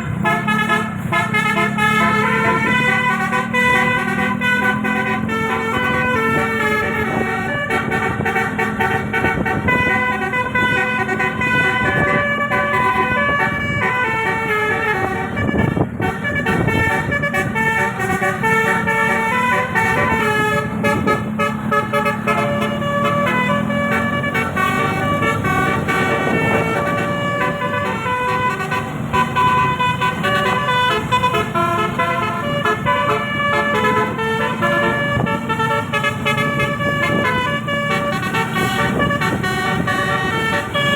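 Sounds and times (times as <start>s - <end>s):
bus air horn playing a tune: 0.0s - 40.9s.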